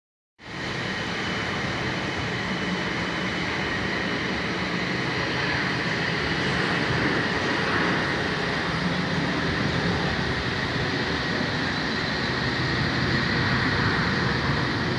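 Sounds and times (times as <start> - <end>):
jet engines roaring: 0.4 - 14.9.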